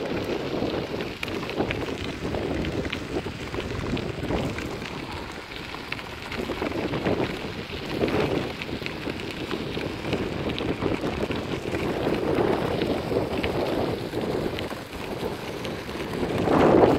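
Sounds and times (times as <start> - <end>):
bike tyres crunching on gravel: 0.0 - 16.9.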